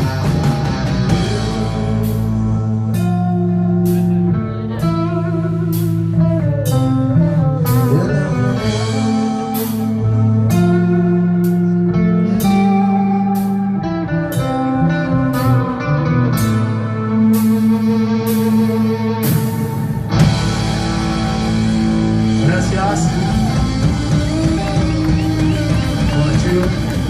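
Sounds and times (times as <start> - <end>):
bass notes: 0.0 - 27.0
guitar lead with bent notes: 0.0 - 27.0.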